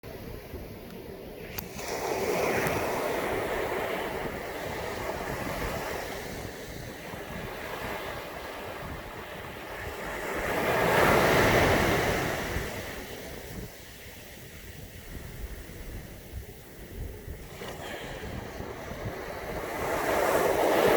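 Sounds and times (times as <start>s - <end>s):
wind rumble on microphone: 0.0s - 20.9s
ocean waves breaking: 1.4s - 20.9s.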